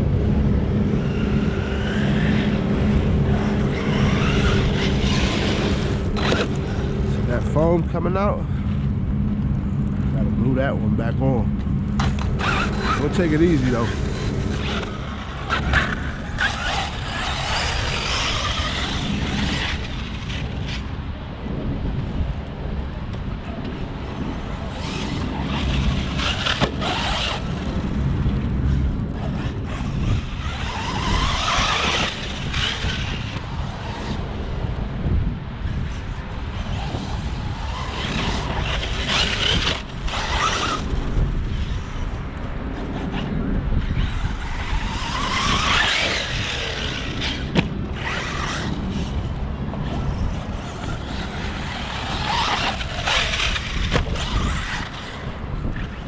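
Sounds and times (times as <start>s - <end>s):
rc truck motor whine: 0.0s - 7.7s, 11.6s - 21.3s, 23.1s - 56.0s
tyres on loose dirt: 0.0s - 8.7s, 11.0s - 21.4s, 23.1s - 35.0s, 35.8s - 56.0s
wind rumble on microphone: 0.0s - 56.0s.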